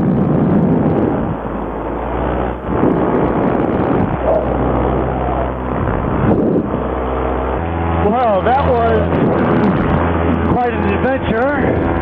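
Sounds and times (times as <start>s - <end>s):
two-stroke engine droning: 0.0s - 12.0s
wind rush on microphone: 0.0s - 12.0s.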